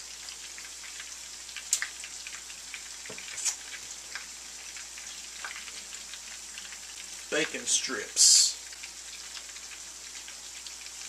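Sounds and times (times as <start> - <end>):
meat sizzling in grease: 0.0 - 11.0.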